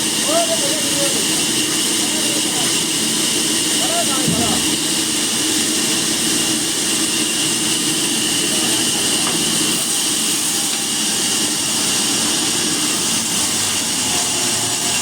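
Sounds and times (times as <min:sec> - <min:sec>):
machine hissing: 0:00.0 - 0:15.0.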